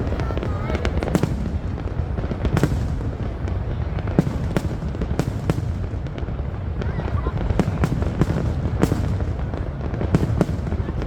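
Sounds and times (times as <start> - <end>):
firework bangs and cracks: 0.0 - 11.0.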